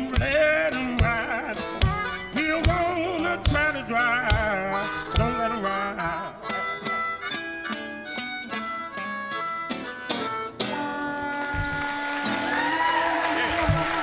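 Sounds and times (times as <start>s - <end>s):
strummed acoustic guitar: 0.0s - 12.7s, 13.3s - 14.0s
blues harmonica: 0.0s - 14.0s.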